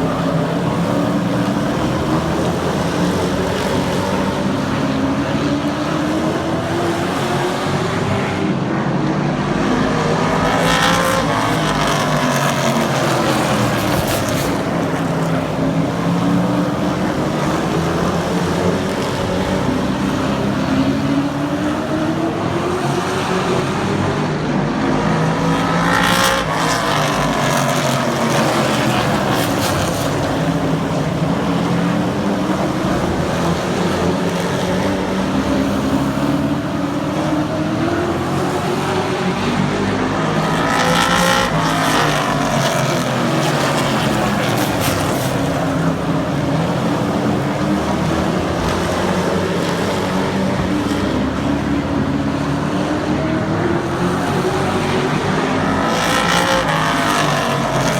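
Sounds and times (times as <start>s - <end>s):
racing truck engines: 0.0s - 57.9s.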